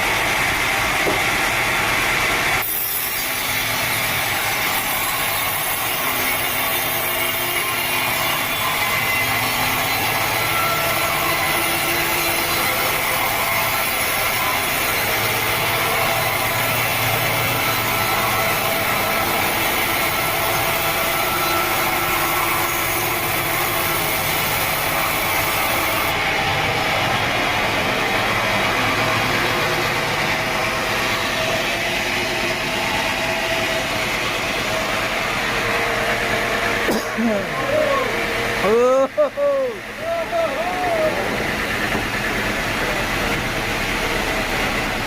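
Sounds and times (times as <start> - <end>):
sawmill saw and motor running: 0.0 - 45.0.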